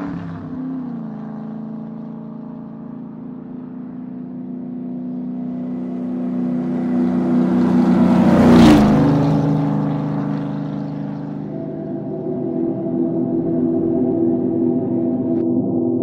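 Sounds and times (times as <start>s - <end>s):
race car engine passing by: 0.0s - 15.4s.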